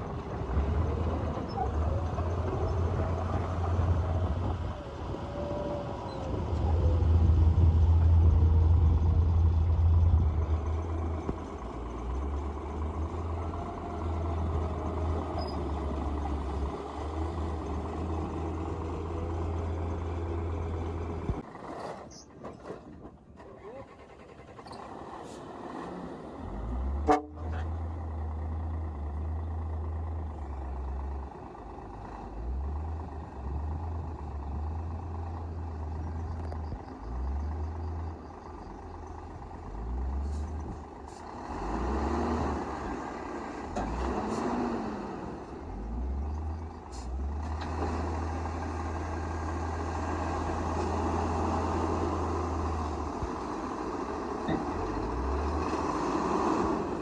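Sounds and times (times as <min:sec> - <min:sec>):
heavy diesel machinery running: 0:00.0 - 0:21.8, 0:24.0 - 0:57.0.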